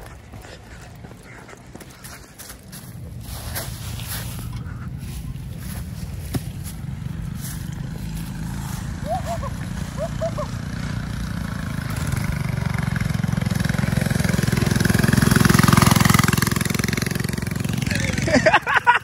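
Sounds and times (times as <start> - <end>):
mini bike engine running: 0.0 - 19.0.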